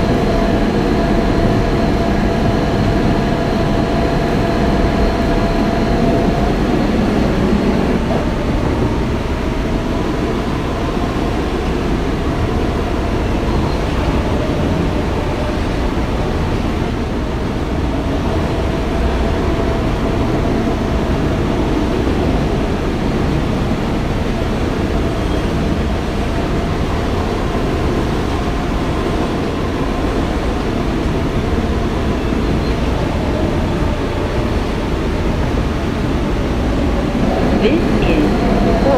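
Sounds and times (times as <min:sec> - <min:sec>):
wheels rumbling on rail: 0:00.0 - 0:38.9.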